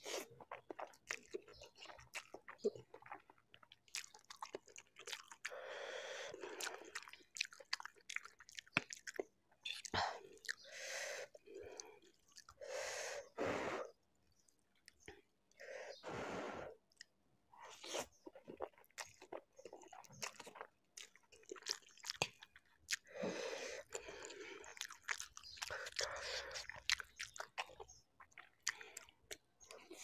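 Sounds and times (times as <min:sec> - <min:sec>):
wet chewing: 0:00.0 - 0:12.6, 0:14.1 - 0:16.0, 0:16.8 - 0:30.0.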